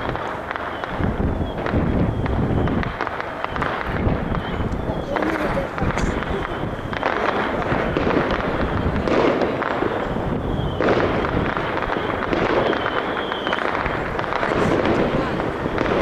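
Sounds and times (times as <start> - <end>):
fireworks bursts: 0.0 - 16.0
fireworks crackling and popping: 0.0 - 16.0.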